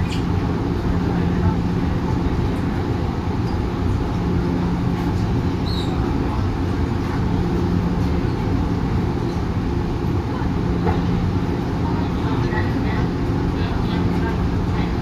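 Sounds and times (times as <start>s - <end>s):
train wheels and traction rumble: 0.0s - 15.0s.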